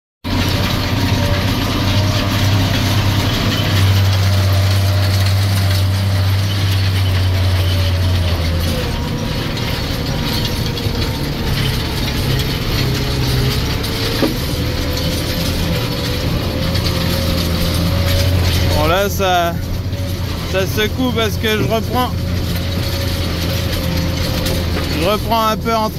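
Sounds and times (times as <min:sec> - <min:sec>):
tractor diesel engine: 0:00.2 - 0:25.9
cab rattling: 0:00.3 - 0:25.9.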